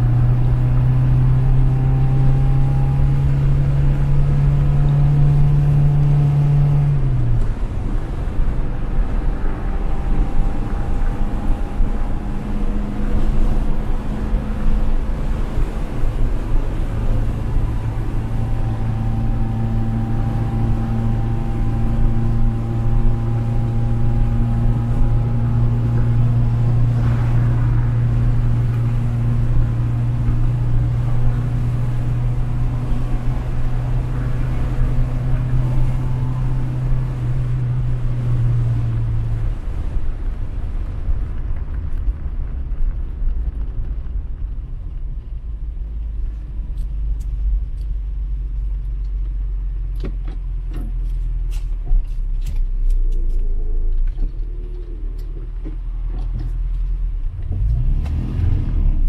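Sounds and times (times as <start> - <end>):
car engine at steady speed: 0.0 - 59.0
low road rumble: 0.0 - 59.0.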